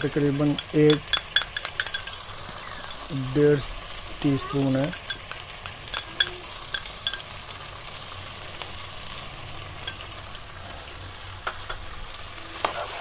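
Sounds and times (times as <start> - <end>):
meat sizzling in a wok: 0.0 - 13.0.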